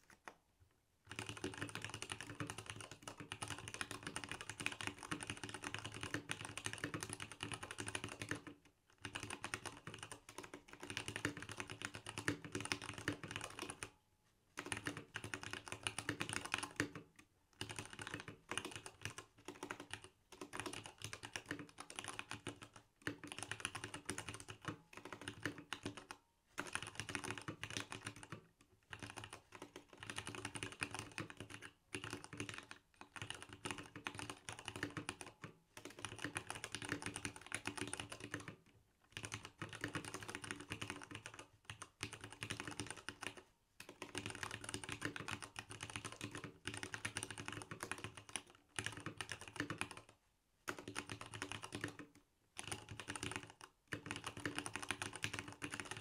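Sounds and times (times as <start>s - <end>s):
mechanical keyboard typing: 1.1s - 13.9s, 14.6s - 56.0s.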